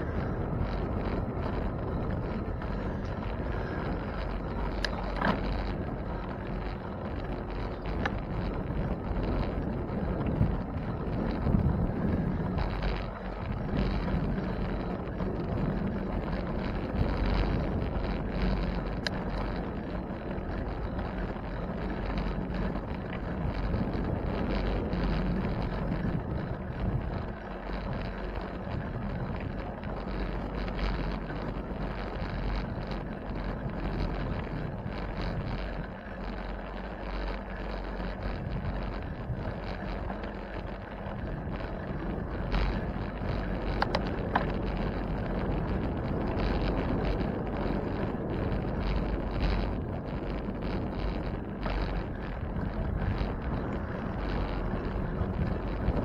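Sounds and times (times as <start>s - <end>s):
deep rumble: 0.0s - 56.0s
wind rushing across microphone: 0.0s - 56.0s.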